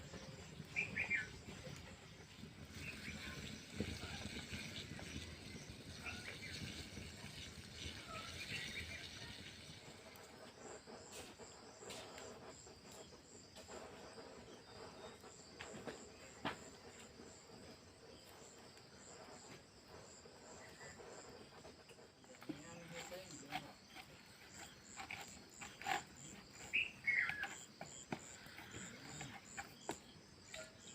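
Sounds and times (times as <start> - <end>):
faint insect chirping: 0.0 - 30.9.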